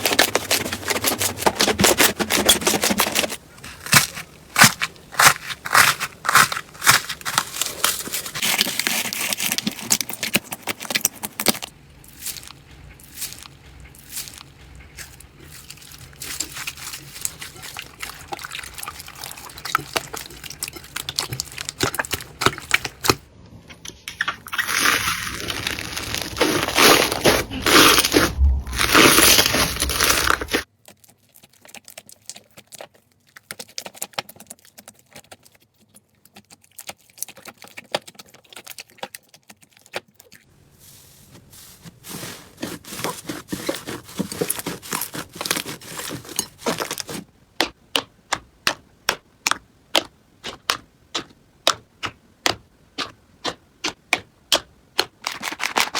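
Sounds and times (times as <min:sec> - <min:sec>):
slime crackling and crinkling: 0:00.0 - 0:23.3, 0:24.1 - 0:47.7, 0:54.6 - 0:55.9.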